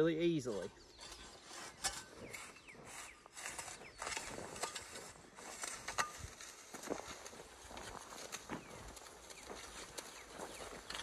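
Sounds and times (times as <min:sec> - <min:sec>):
footsteps on loose dirt: 0:00.5 - 0:11.0
hand plow scraping through soil: 0:00.6 - 0:11.0.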